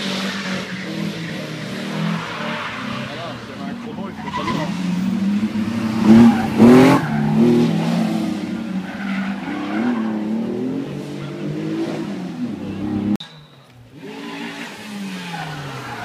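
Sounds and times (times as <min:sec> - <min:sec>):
rally car engine revving: 0:00.0 - 0:13.2, 0:13.9 - 0:16.0.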